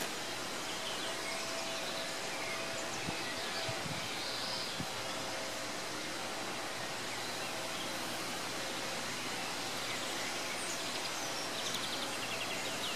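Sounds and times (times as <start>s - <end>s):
outdoor background hiss: 0.0s - 12.9s.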